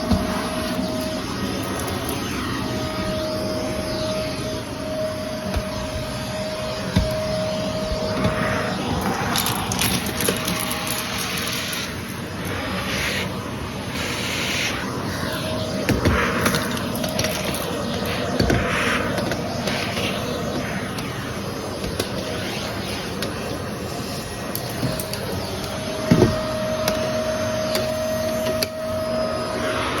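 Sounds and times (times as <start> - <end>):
rushing swells of air: 0.0 - 24.5
vacuum cleaner whine: 0.0 - 30.0.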